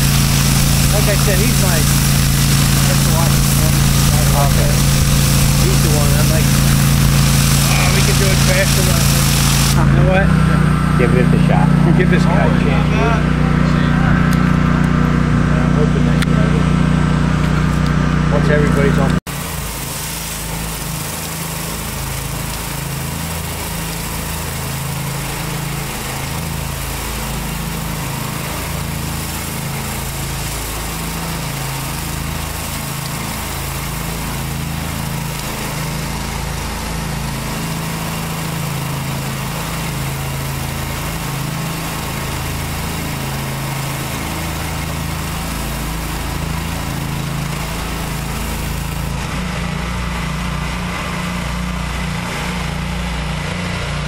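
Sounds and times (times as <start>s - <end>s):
water jets hissing on concrete: 0.0s - 13.6s, 14.3s - 54.0s
pressure washer engine running: 0.0s - 54.0s.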